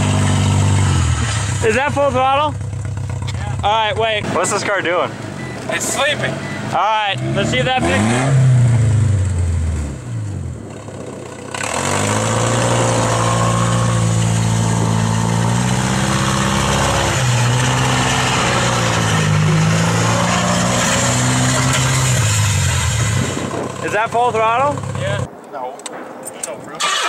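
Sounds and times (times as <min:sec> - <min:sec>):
car engine under hard throttle: 0:00.0 - 0:25.3.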